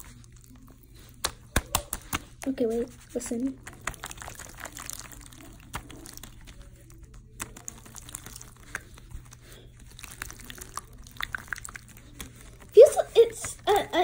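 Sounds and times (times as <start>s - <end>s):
slime squished by hand: 0.0s - 3.0s, 3.6s - 12.8s.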